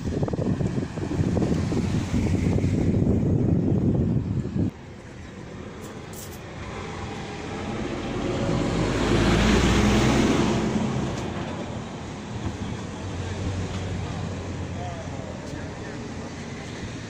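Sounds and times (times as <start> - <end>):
heavy vehicle passing: 0.0 - 17.0.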